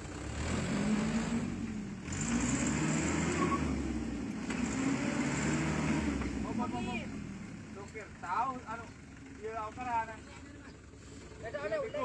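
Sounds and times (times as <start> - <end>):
truck engine revving: 0.0 - 11.6.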